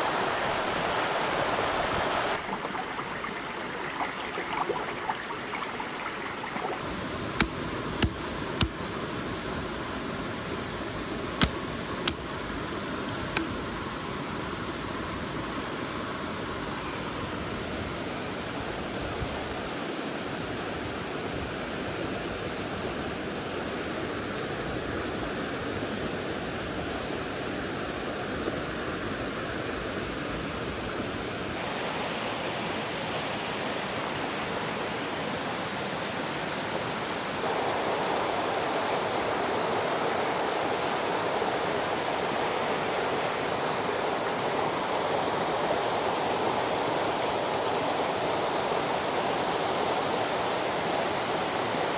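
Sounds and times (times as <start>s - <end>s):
river water rushing: 0.0s - 2.6s, 6.8s - 51.9s.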